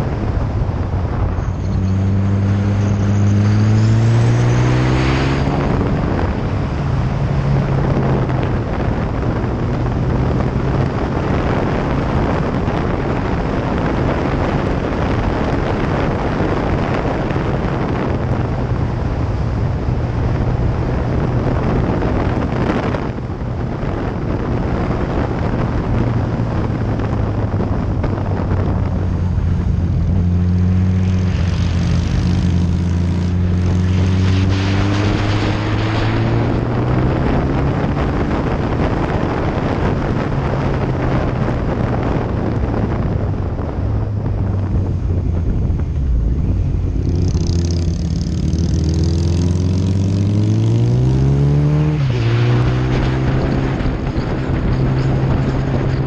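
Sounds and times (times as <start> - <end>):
motorcycle engine accelerating: 0.0 - 56.0
wind rush on camera: 0.0 - 56.0.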